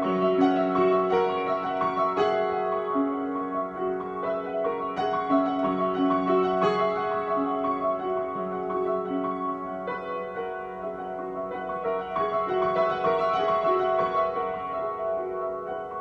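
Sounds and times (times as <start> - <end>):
slow piano improvisation: 0.0 - 16.0.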